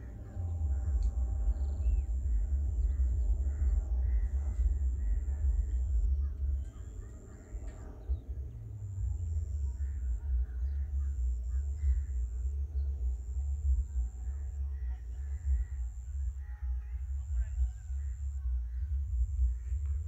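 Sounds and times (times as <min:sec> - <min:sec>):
faint bird calls: 0:00.0 - 0:20.0
wind buffeting microphone: 0:00.0 - 0:20.0.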